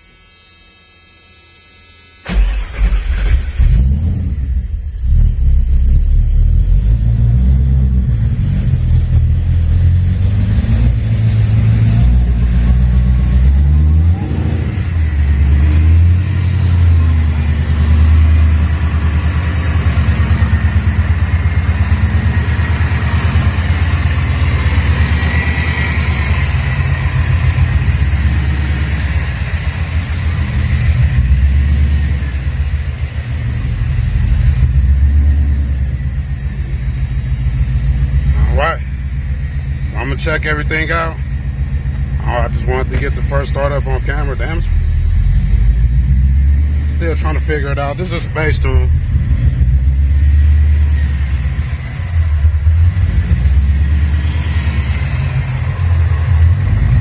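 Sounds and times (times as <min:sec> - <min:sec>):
engine revving: 0:02.2 - 0:57.0
car engine idling unevenly: 0:02.3 - 0:57.0.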